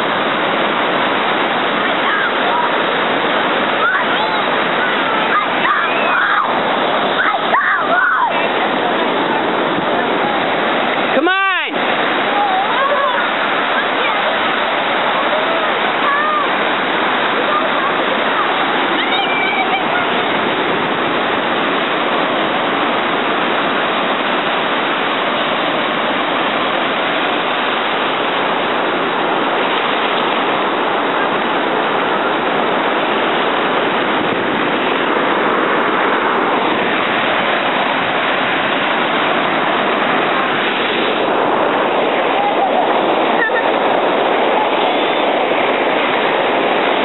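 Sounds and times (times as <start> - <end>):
waves breaking on sand: 0.0 - 47.0.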